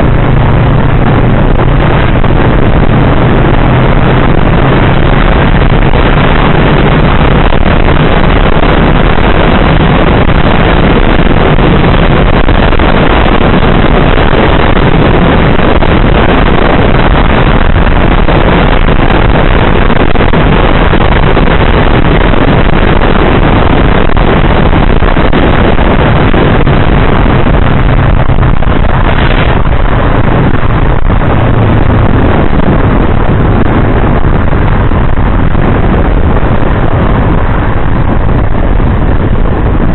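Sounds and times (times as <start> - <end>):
motorcycle engine hum: 0.0 - 39.9
wind noise on microphone: 0.0 - 39.9.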